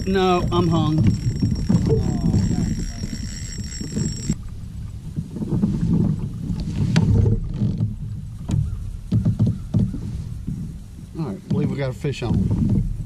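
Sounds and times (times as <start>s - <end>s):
kayak rumbling and knocking: 0.0s - 13.0s.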